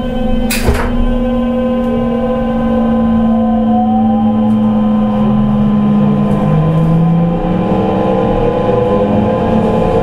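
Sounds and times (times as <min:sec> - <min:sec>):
electric train motors whining: 0:00.0 - 0:10.0
train running rumble: 0:00.0 - 0:10.0.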